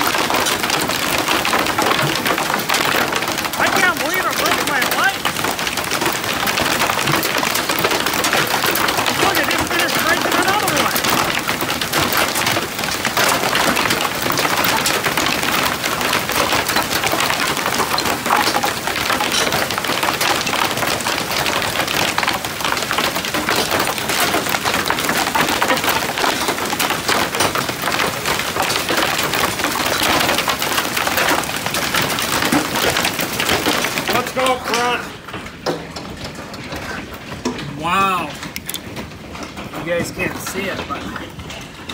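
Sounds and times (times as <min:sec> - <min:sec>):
hailstones pelting wood and gravel: 0:00.0 - 0:41.9.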